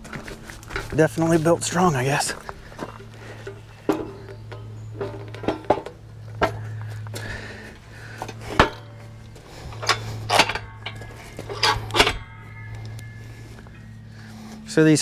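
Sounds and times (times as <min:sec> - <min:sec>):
steady low hum: 0:00.0 - 0:15.0
steel frame clanking: 0:00.0 - 0:15.0.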